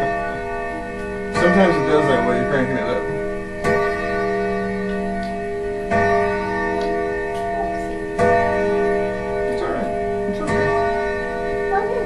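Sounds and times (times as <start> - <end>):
grandfather clock gonging: 0.0 - 12.0.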